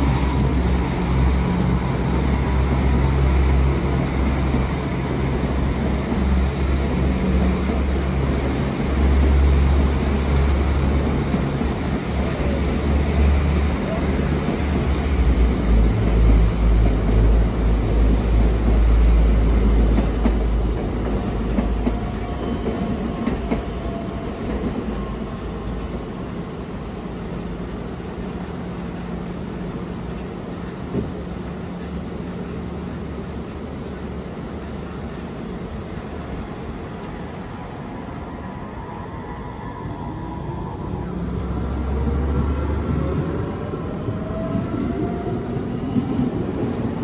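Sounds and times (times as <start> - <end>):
rail yard noise: 0.0 - 47.0
train wheels rumbling on track: 0.0 - 47.0.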